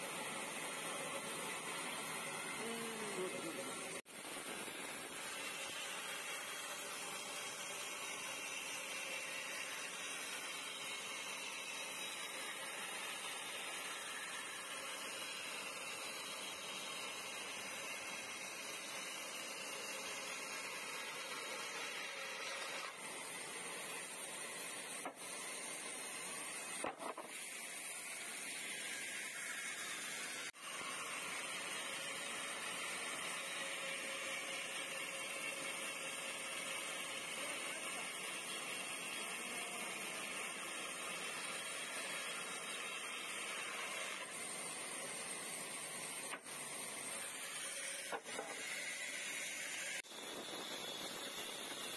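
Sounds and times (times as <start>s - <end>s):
bandsaw cutting through log: 0.0s - 51.9s.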